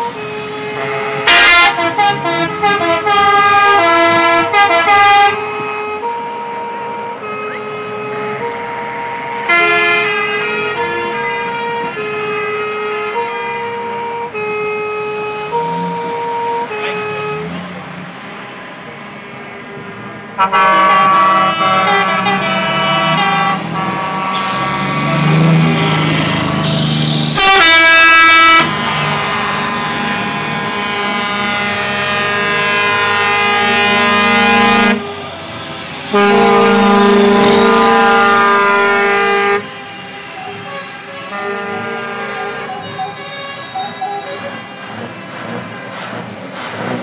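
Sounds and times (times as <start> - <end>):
truck air horns blasting: 0.0 - 47.0.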